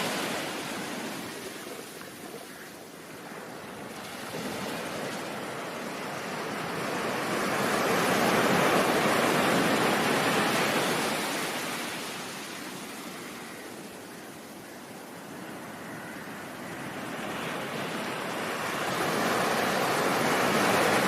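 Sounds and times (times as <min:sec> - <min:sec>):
ocean surf washing: 0:00.0 - 0:21.0.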